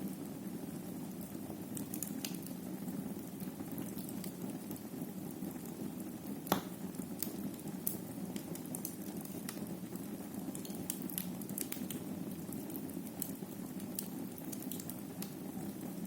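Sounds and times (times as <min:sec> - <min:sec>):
fire popping: 0:01.1 - 0:16.0.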